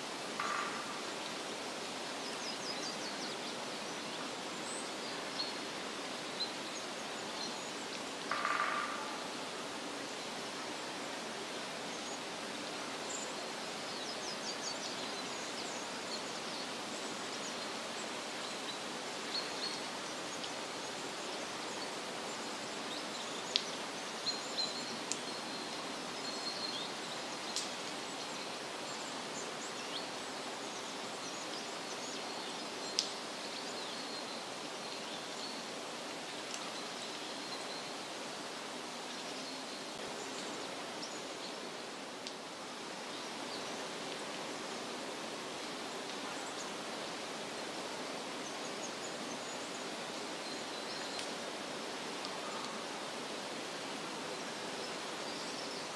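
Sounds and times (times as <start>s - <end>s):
steady rushing hiss: 0.0s - 55.9s.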